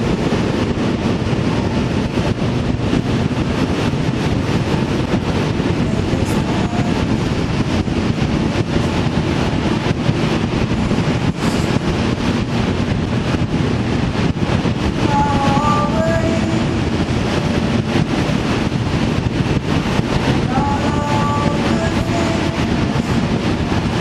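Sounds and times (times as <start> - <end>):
vehicle engine and road rumble: 0.0 - 24.0
wind on microphone: 0.0 - 24.0.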